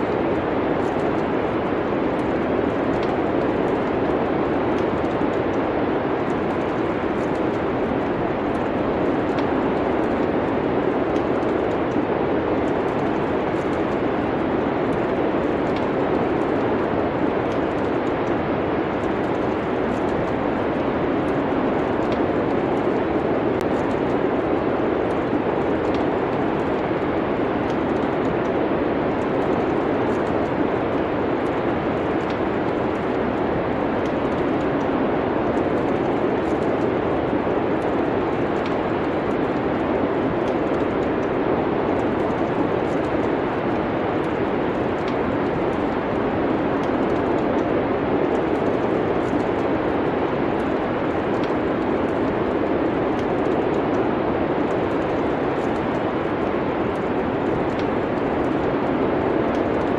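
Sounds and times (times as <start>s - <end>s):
fireplace crackles: 0.0s - 59.9s.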